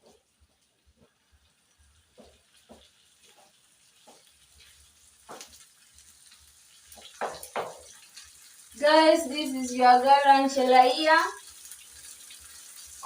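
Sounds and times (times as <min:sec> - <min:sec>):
quiet sizzling hiss: 0:00.0 - 0:13.0.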